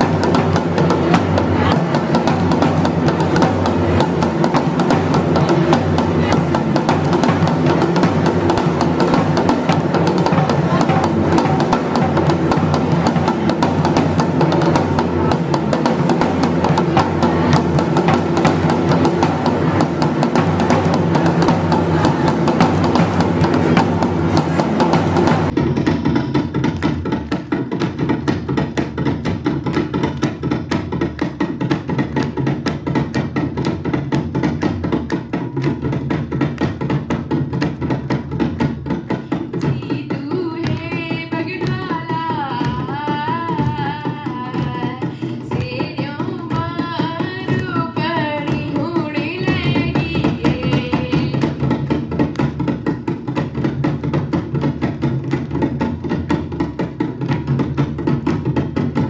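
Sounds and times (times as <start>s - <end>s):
drums playing fast rhythm: 0.0s - 59.0s.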